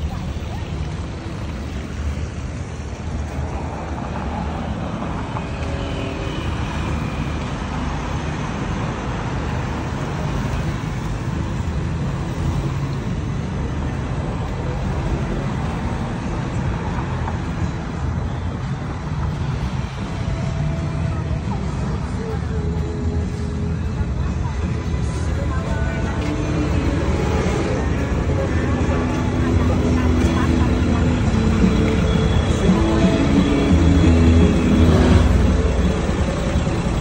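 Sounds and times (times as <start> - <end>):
cars and scooters passing: 0.0 - 37.0.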